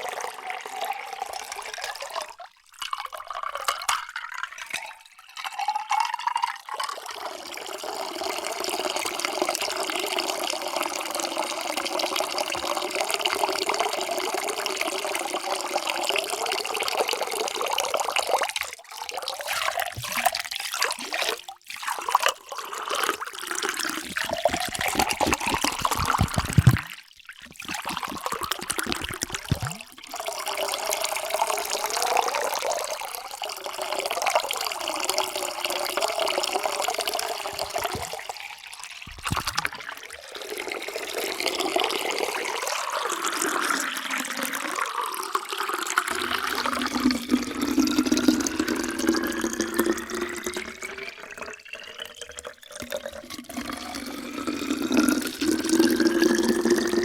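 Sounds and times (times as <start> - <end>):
water poured into container: 0.0 - 57.0.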